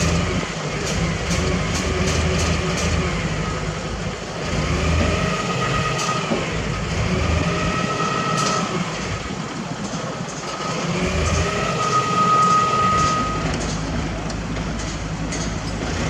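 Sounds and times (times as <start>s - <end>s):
diesel machinery running: 0.0s - 16.0s
high machine whine: 0.0s - 16.0s.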